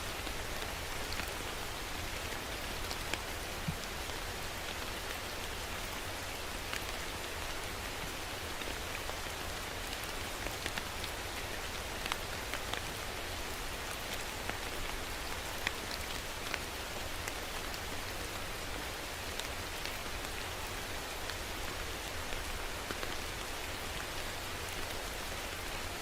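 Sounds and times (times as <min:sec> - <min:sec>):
rain drops pattering: 0:00.0 - 0:26.0.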